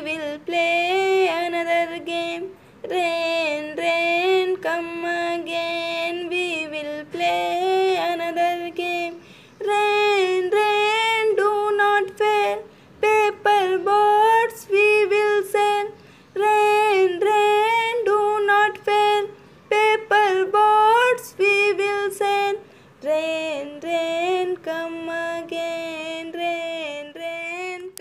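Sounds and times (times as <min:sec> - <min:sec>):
woman singing unaccompanied: 0:00.0 - 0:28.0.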